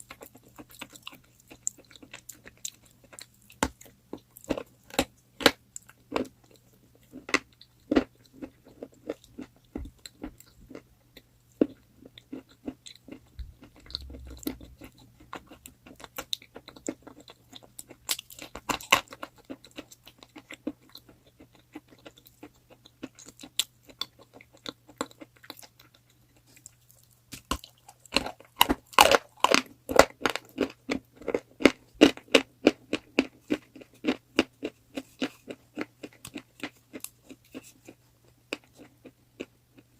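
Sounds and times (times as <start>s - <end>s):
chewing crunchy chalk: 0.0s - 39.9s.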